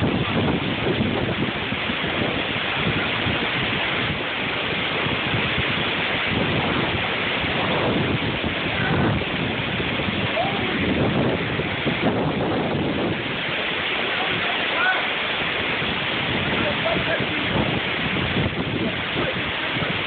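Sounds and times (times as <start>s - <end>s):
strong wind rushing: 0.0s - 20.0s
wind buffeting microphone: 0.0s - 20.0s.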